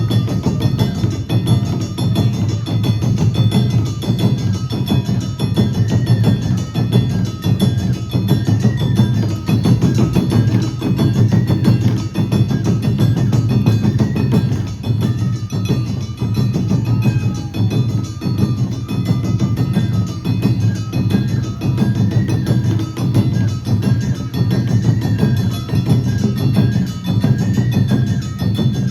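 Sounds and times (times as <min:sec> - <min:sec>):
drums: 0:00.0 - 0:28.9
metallic clanging percussion: 0:00.0 - 0:28.9.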